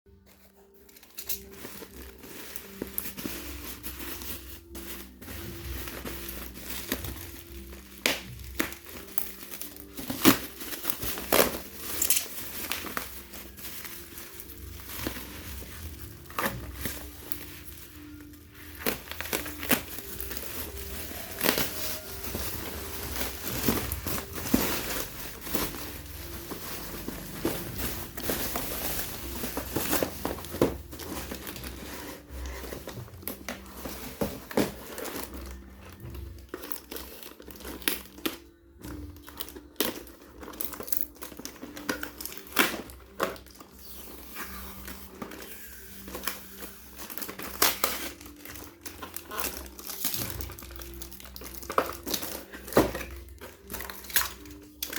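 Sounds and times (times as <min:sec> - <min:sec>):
wrapping crinkling: 0:00.1 - 0:54.9
packaging tearing: 0:00.6 - 0:54.9.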